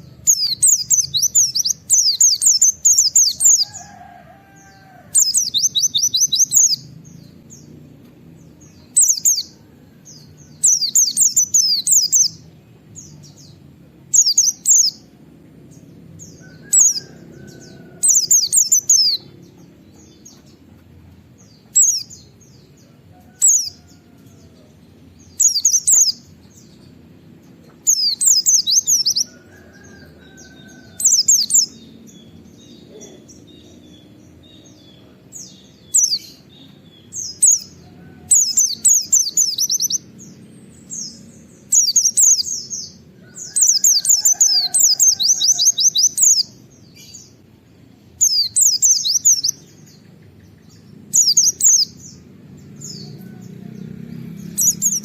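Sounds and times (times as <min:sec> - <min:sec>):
bird chattering song: 0:00.0 - 0:07.8, 0:08.4 - 0:09.6, 0:10.2 - 0:15.1, 0:15.7 - 0:53.5, 0:54.4 - 0:55.0.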